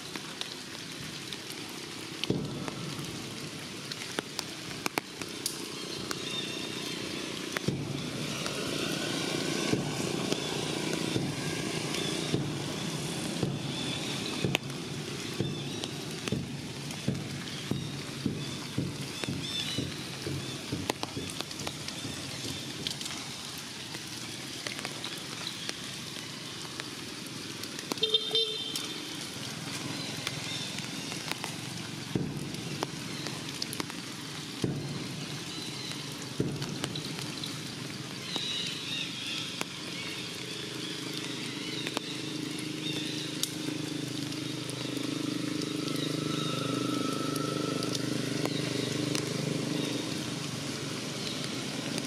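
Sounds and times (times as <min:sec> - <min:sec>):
rain on leaves: 0:00.0 - 0:52.0
drips and taps: 0:00.1 - 0:08.6, 0:09.5 - 0:52.0.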